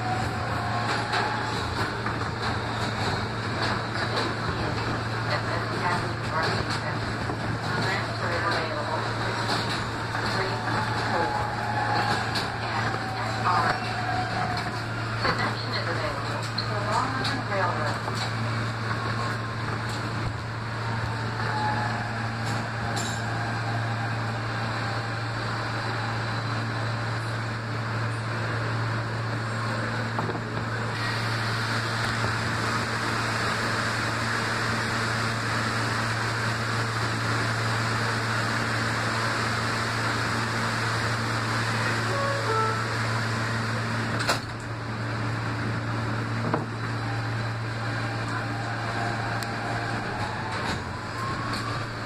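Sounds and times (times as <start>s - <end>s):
subway wheels rumbling on rail: 0.0s - 52.0s.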